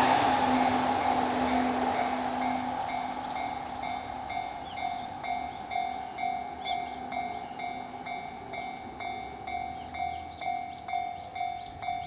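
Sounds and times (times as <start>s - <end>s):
railway crossing bell dinging: 0.0s - 12.0s
train passing: 0.0s - 12.0s.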